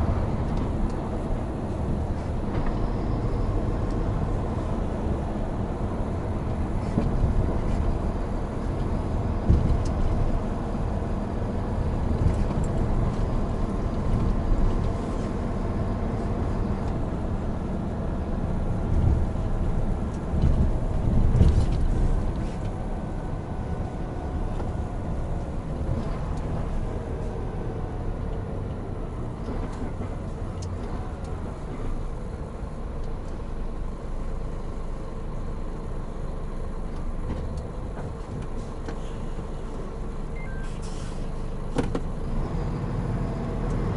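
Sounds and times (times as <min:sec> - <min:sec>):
road noise: 0:00.0 - 0:43.9
truck diesel engine running: 0:00.0 - 0:43.9.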